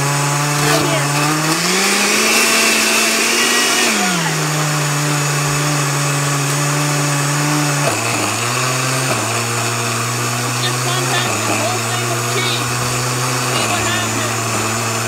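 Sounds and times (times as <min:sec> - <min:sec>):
blender motor chopping cheese: 0:00.0 - 0:15.0.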